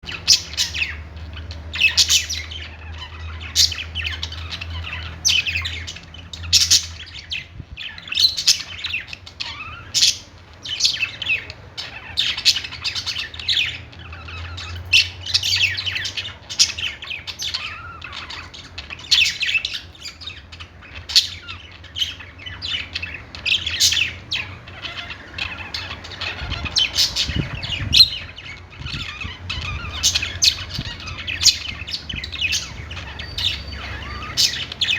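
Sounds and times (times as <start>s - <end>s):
budgerigars chirping and squawking: 0.0s - 34.9s.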